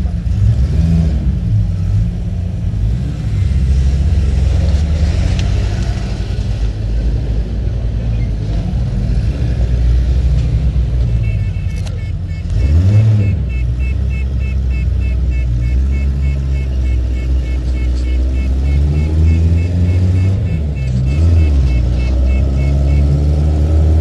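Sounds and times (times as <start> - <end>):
buggy engine running: 0.0 - 24.0.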